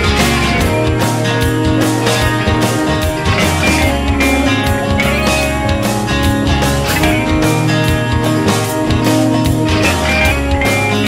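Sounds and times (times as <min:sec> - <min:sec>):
guitar-led rock music: 0:00.0 - 0:11.0.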